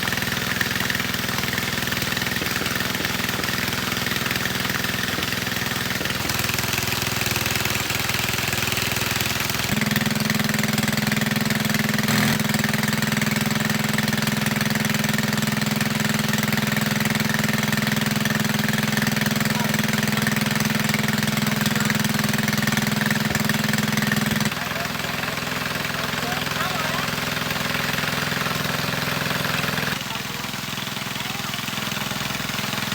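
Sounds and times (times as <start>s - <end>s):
small petrol engine running: 0.0s - 32.9s.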